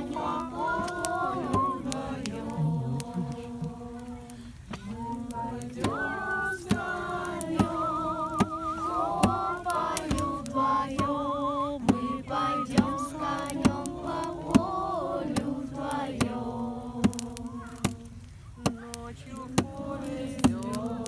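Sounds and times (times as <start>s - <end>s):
campfire crackling: 0.0s - 21.0s
people singing together: 0.0s - 21.0s.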